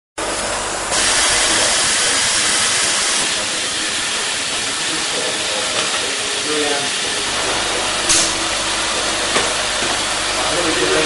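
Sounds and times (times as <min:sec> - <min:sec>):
loud machinery hiss: 0:00.2 - 0:11.0.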